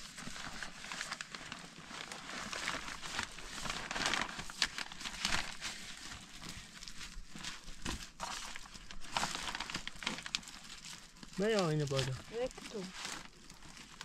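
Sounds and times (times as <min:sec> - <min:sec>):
wrapping crinkling and rustling: 0:00.0 - 0:14.0.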